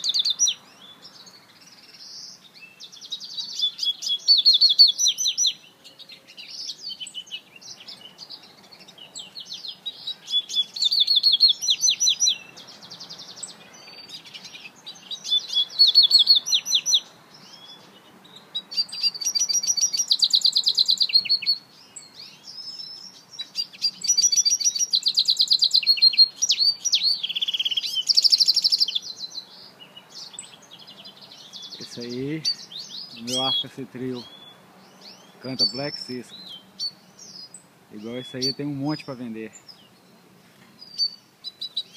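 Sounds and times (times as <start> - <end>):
finch singing high trills: 0.0 - 41.9.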